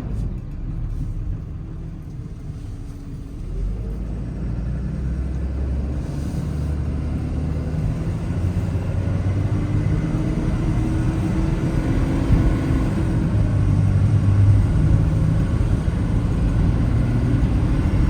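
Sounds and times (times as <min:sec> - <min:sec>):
truck diesel engine pulling: 0:00.0 - 0:18.0.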